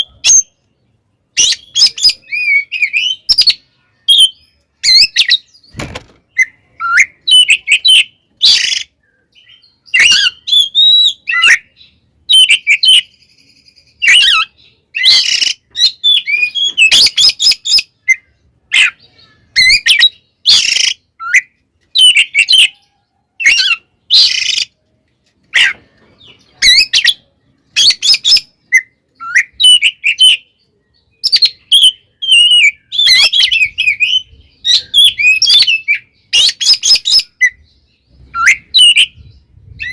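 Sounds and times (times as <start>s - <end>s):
songbird singing whistles and chirps: 0.0s - 39.9s.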